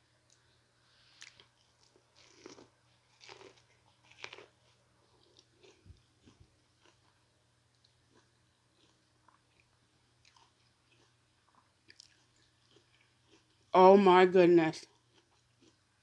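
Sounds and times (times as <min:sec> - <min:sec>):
chewing corn on the cob: 0:01.2 - 0:13.8, 0:14.8 - 0:16.0.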